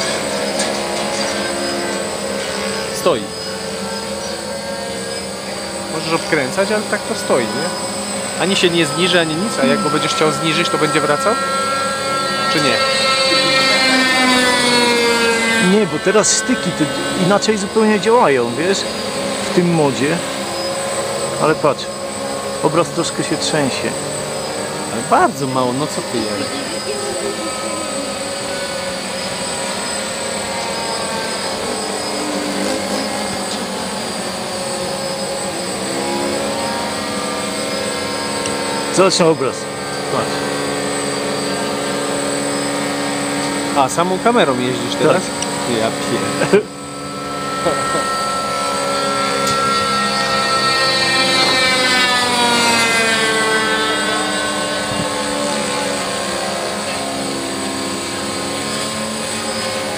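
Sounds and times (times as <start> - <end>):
drone motors whirring: 0.0 - 59.9.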